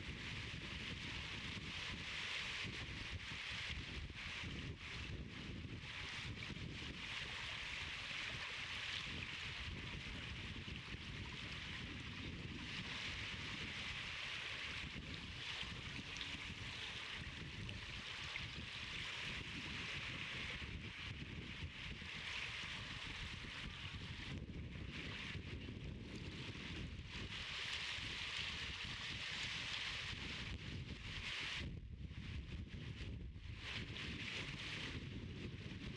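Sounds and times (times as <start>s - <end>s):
wind on microphone: 0.0s - 35.9s.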